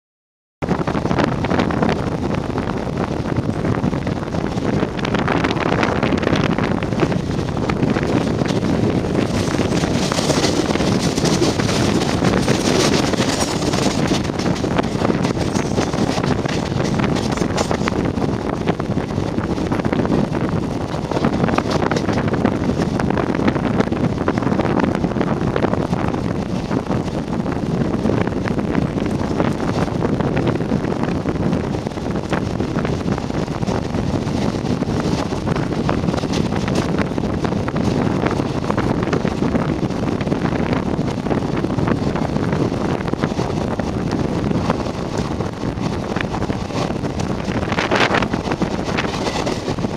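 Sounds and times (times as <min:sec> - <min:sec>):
train wheels rumbling on track: 0:00.6 - 0:49.9
wind rushing over microphone: 0:00.6 - 0:49.9.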